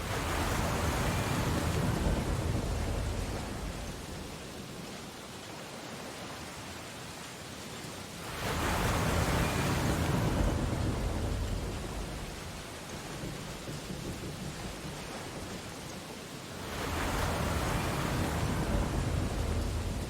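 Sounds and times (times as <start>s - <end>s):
ocean surf washing: 0.0s - 20.0s.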